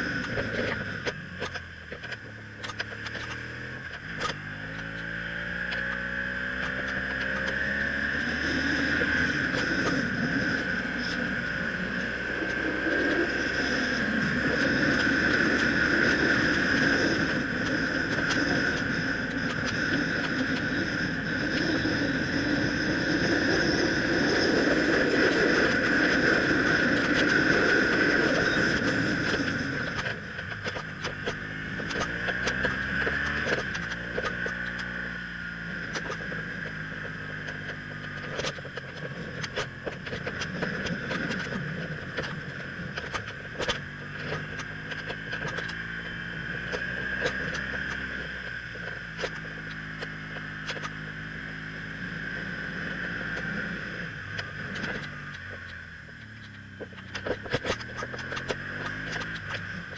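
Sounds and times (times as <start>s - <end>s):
motorcycle engine pulling uphill: 0.0s - 59.9s
wind and road noise: 0.0s - 59.9s.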